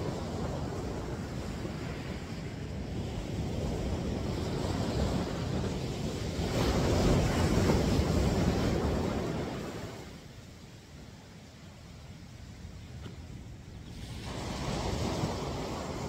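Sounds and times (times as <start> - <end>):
ocean surf washing on a beach: 0.0 - 16.0
wind buffeting the microphone: 0.0 - 16.0.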